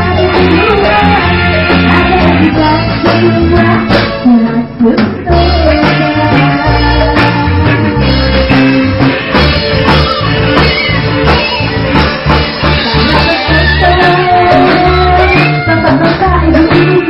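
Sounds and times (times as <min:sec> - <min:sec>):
band playing with singing: 0:00.0 - 0:17.0.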